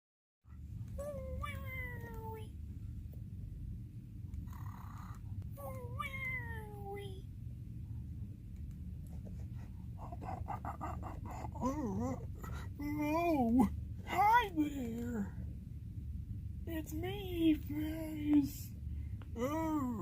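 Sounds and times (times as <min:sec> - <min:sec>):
steady low hum: 0:00.5 - 0:20.0.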